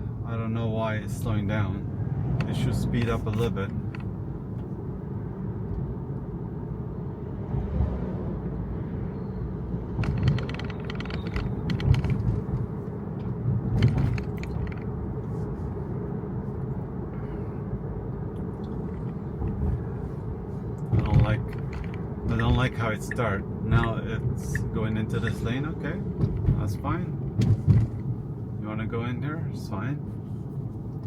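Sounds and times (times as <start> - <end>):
road and tyre rumble in car: 0.0 - 31.0.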